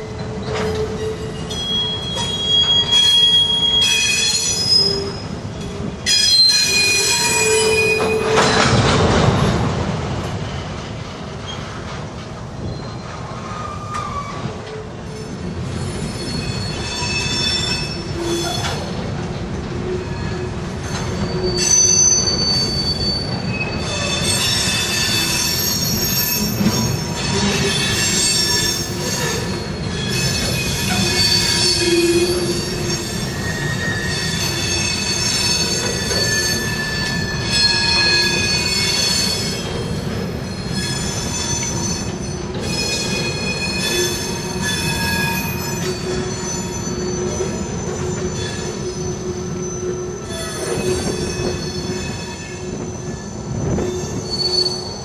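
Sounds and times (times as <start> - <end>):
train wheels rumbling on rail: 0.0 - 55.0
high-pitched wheel squeal: 0.6 - 8.6, 15.9 - 18.9, 19.9 - 39.7, 40.6 - 55.0.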